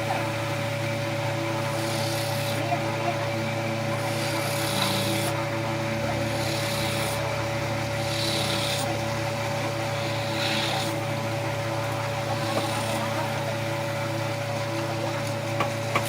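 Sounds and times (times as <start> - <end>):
abrasive rubbing wood: 0.0 - 16.0
motor hum: 0.0 - 16.0.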